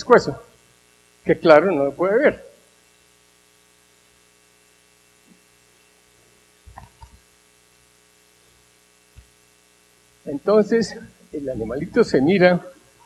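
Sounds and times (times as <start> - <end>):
faint mains hum: 0.0 - 13.0.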